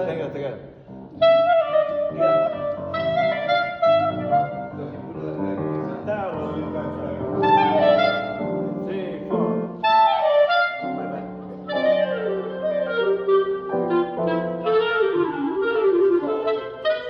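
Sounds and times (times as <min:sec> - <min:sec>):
clarinets playing: 0:01.1 - 0:05.0, 0:06.5 - 0:17.0.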